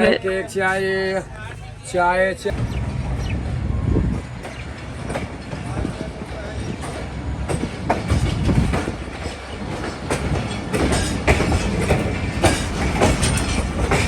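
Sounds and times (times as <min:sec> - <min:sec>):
train wheels rumbling: 0:00.0 - 0:14.0
rail clatter and knocks: 0:02.5 - 0:14.0.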